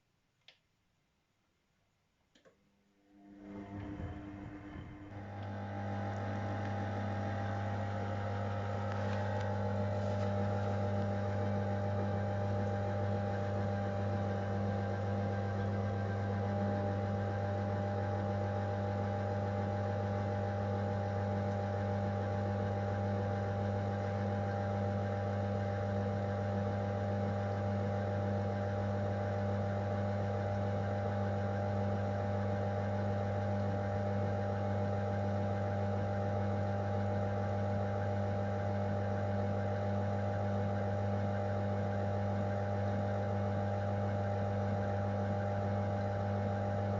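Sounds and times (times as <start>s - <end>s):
washing machine hum: 2.7s - 46.9s.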